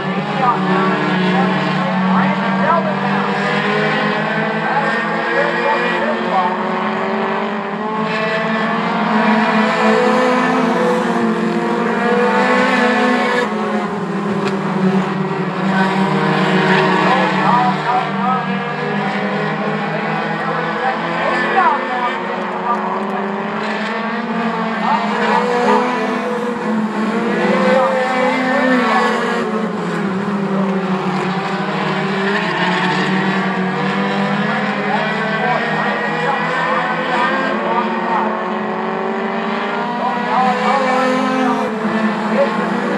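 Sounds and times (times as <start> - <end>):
race car engines droning: 0.0 - 42.9.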